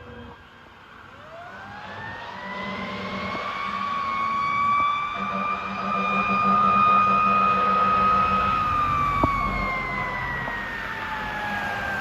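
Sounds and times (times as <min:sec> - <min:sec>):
fire engine siren: 0:00.0 - 0:12.0.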